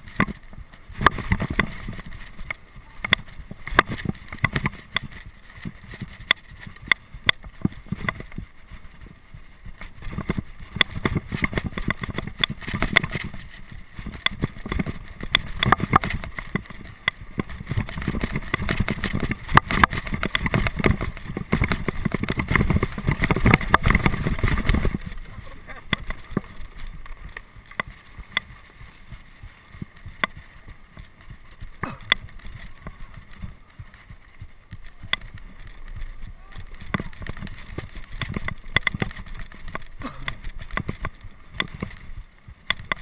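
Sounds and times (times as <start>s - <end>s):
sharp clicks and knocks: 0.0s - 43.0s
wind rumbling on microphone: 0.0s - 43.0s.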